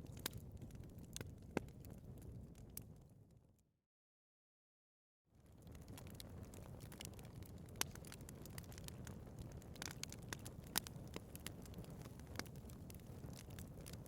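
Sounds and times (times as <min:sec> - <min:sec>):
wood fire crackling and popping: 0:00.0 - 0:03.0, 0:05.4 - 0:14.0
low rumble of fire: 0:00.0 - 0:03.5, 0:05.4 - 0:14.0.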